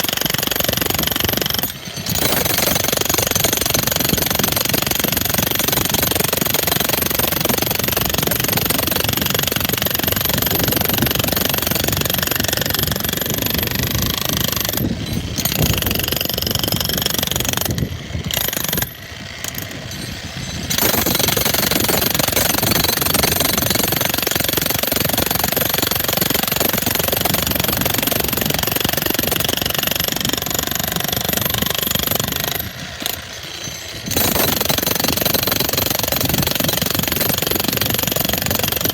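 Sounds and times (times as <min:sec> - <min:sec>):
demolition hammer breaking concrete: 0:00.0 - 0:38.9.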